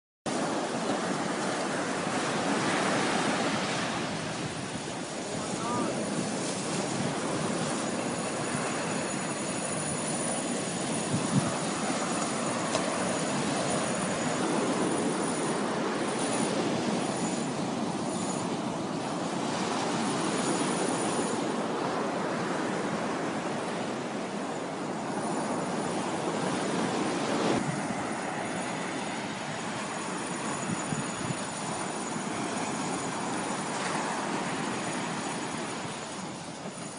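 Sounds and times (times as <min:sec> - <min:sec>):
surf breaking on beach: 0:00.3 - 0:36.8
wind buffeting microphone: 0:00.3 - 0:36.9.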